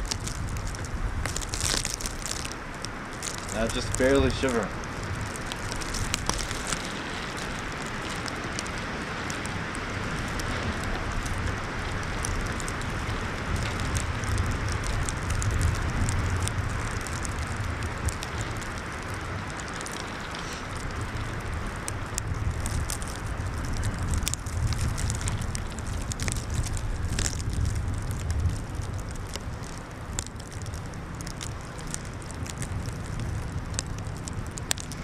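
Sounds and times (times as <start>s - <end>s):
plastic bag crackling: 0.0s - 35.0s
wind rumbling on microphone: 0.0s - 35.0s.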